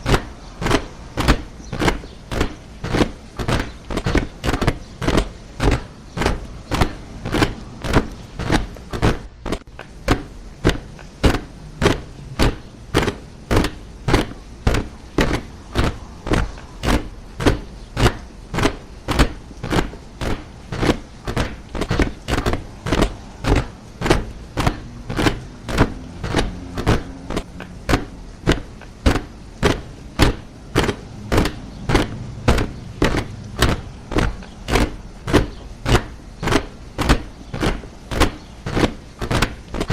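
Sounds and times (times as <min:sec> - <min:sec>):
soldiers marching in step: 0:00.0 - 0:39.9.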